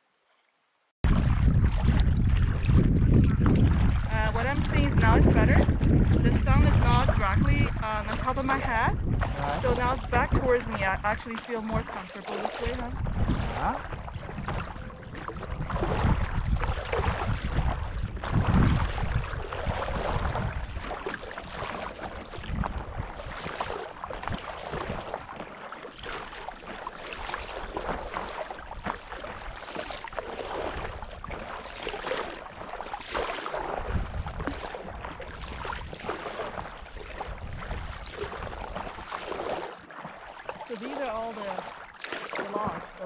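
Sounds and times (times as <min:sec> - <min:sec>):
wind buffeting microphone: 0:01.0 - 0:25.4, 0:27.2 - 0:32.7, 0:33.5 - 0:39.6
kayak paddles splashing in water: 0:01.0 - 0:43.0.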